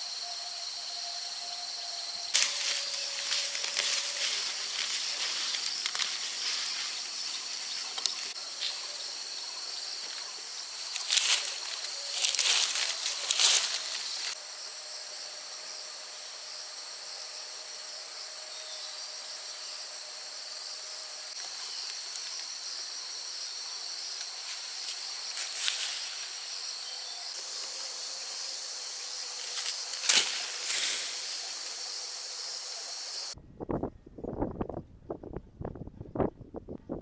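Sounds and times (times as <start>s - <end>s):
chirring insects: 0.0s - 33.4s.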